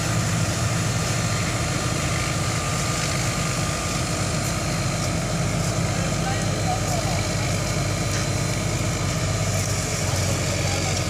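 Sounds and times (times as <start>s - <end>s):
crane engine running: 0.0s - 11.0s.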